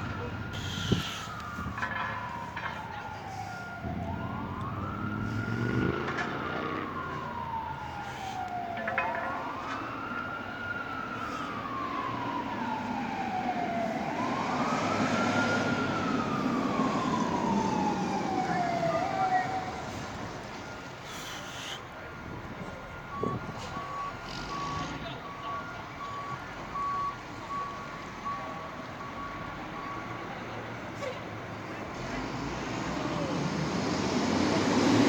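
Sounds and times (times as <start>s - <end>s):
emergency siren wailing: 0.0s - 35.0s.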